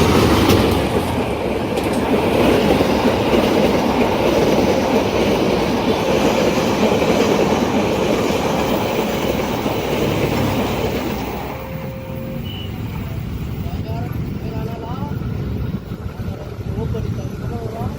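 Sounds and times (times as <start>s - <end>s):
train rumbling past on rails: 0.0s - 17.9s.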